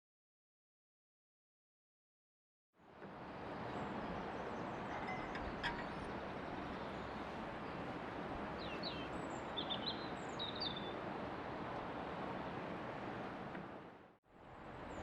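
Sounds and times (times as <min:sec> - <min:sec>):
outdoor background noise: 0:02.8 - 0:15.0.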